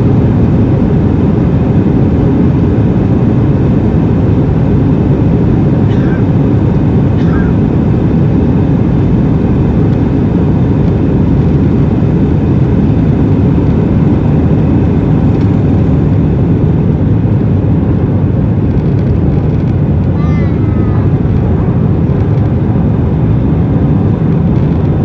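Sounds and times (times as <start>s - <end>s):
jet engines at takeoff power: 0.0s - 25.0s
wheels rumbling on runway: 0.0s - 25.0s.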